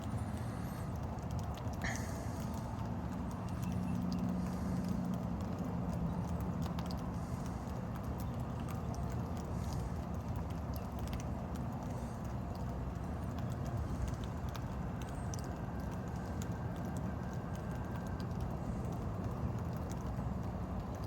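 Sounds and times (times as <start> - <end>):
dripping ticks and taps: 0.0 - 21.0
rain rushing: 0.0 - 21.0.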